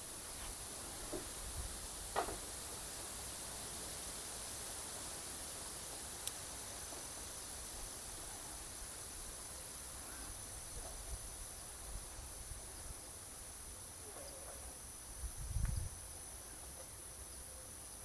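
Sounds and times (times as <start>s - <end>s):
insects chirring: 0.0s - 18.0s
soft hiss: 0.0s - 18.0s.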